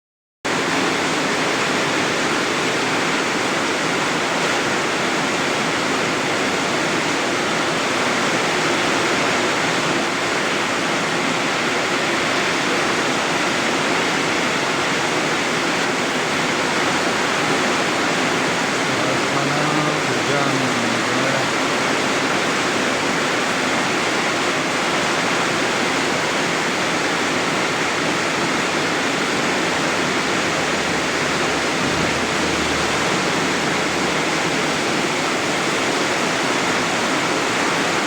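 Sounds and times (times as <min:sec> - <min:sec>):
heavy rain pouring: 0:00.5 - 0:38.0.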